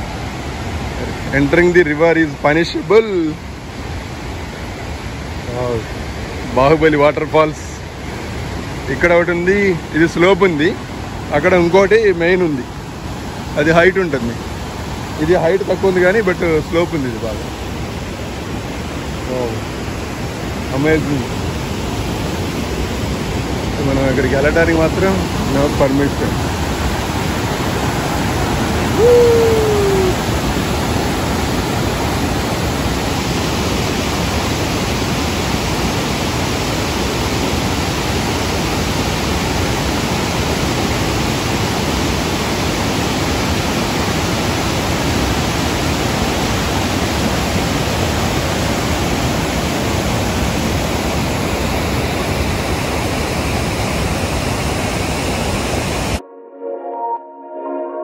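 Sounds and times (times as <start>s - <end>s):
waterfall rushing over rocks: 0.0s - 56.2s.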